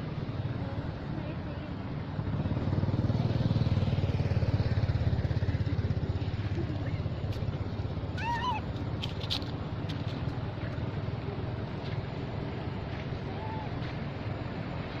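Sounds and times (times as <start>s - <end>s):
engine pulsing: 0.0s - 15.0s.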